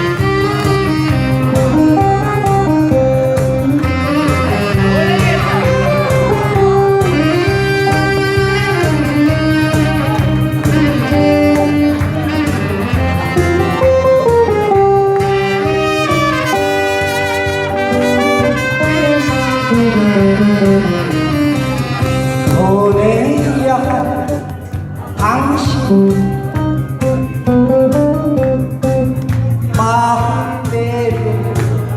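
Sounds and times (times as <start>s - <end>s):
sliding lead melody: 0.0s - 31.9s
steady beat and bass: 0.0s - 31.9s.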